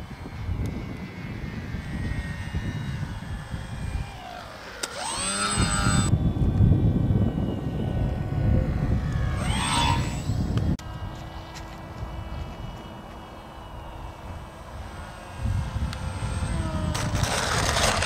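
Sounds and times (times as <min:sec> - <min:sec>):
model airplane motor whining: 0:00.0 - 0:18.0
wind rumble on microphone: 0:00.0 - 0:18.0.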